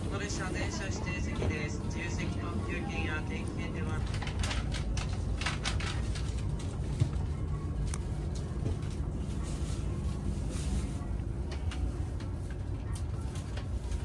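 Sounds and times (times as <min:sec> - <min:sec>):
train cabin rumble and hum: 0:00.0 - 0:14.0.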